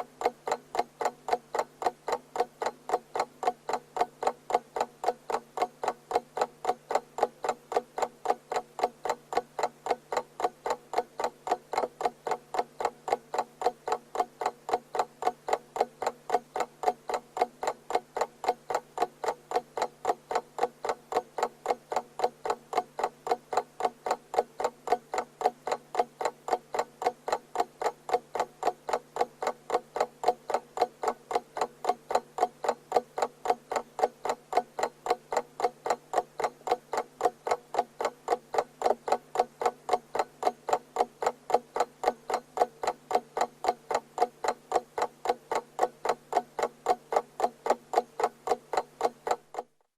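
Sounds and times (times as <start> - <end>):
clock ticking: 0.0 - 49.9.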